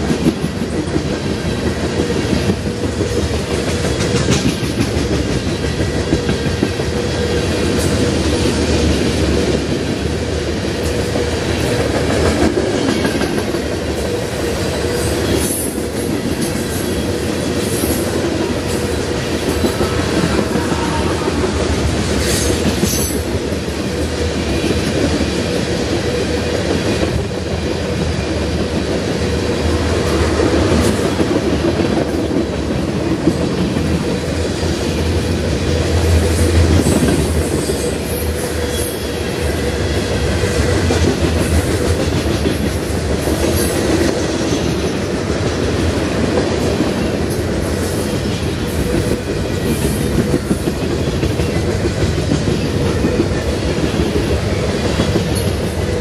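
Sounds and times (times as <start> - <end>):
freight train rumbling: 0.0 - 56.0.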